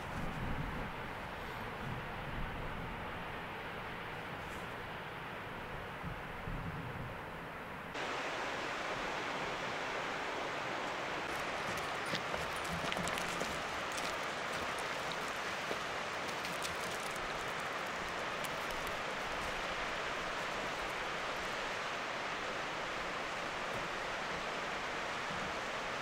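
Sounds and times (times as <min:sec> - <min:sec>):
running mountain water: 0:00.0 - 0:26.0.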